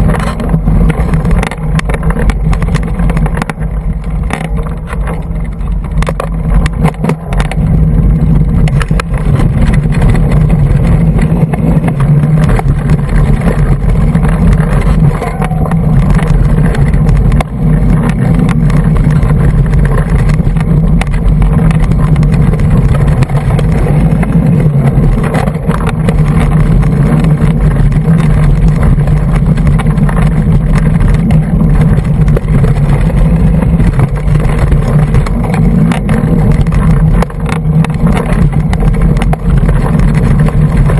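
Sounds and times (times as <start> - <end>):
bike rattling over rough ground: 0.0 - 40.9
wind rumble on microphone: 0.0 - 40.9.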